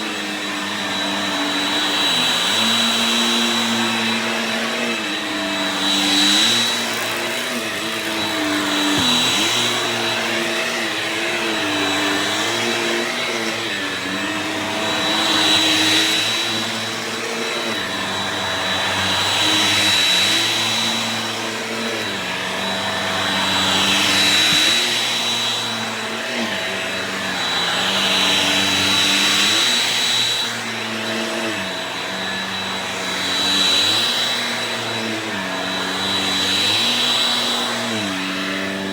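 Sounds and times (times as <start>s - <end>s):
vacuum cleaner whining: 0.0s - 38.9s.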